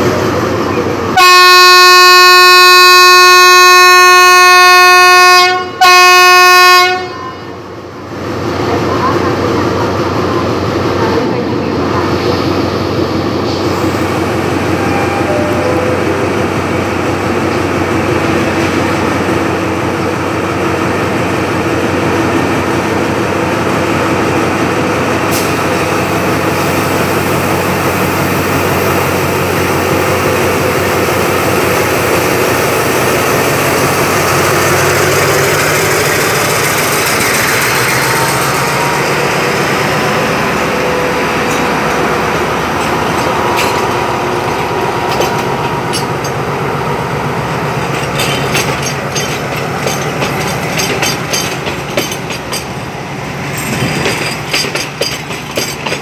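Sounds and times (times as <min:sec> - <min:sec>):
diesel locomotive running: 0:00.0 - 0:56.0.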